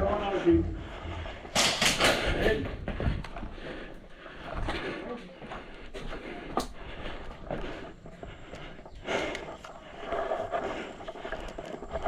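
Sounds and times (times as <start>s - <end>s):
footsteps: 0.0s - 12.0s.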